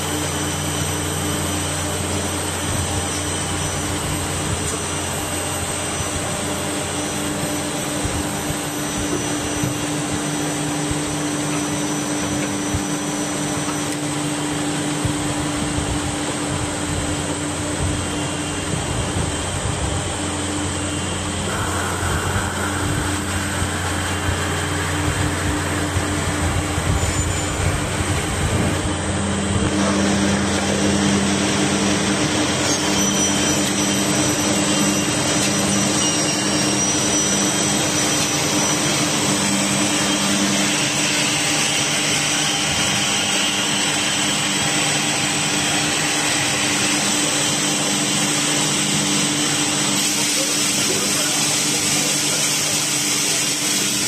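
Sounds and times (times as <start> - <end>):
edge banding machine drone: 0.0 - 54.0.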